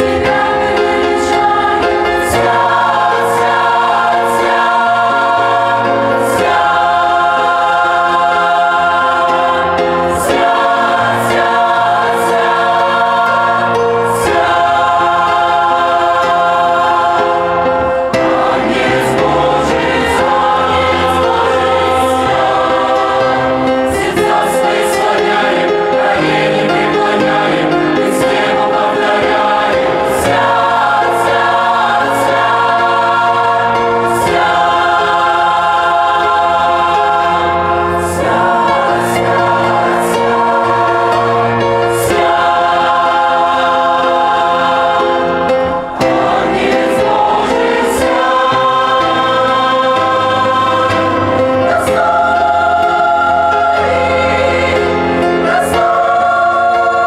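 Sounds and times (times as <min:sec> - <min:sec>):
church choir singing a hymn: 0:00.0 - 0:57.0.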